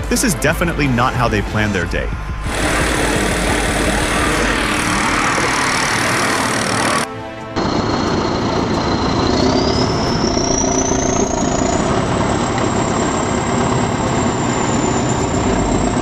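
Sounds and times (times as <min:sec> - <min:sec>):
high whine: 0:00.0 - 0:16.0
heavy machinery engine: 0:02.2 - 0:16.0.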